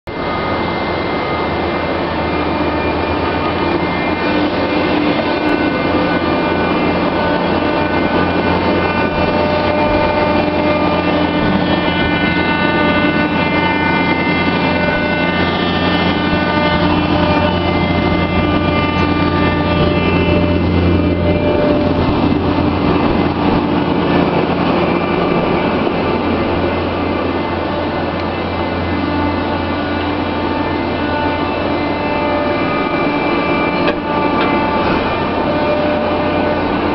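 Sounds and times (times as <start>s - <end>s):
baler machinery humming and whining: 0.1s - 36.9s.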